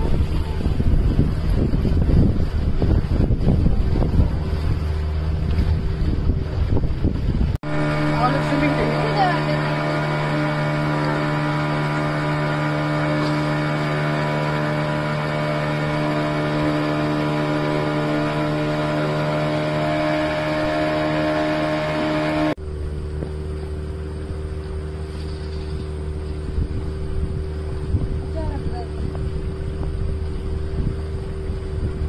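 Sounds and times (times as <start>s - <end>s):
motorboat engine drone: 0.0s - 32.0s.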